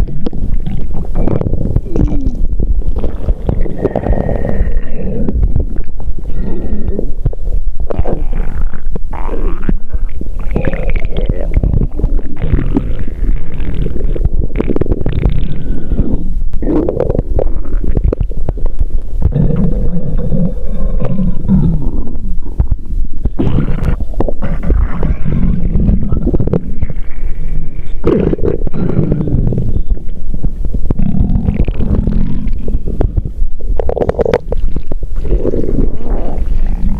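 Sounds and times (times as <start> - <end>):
stomach growling: 0.0 - 36.9.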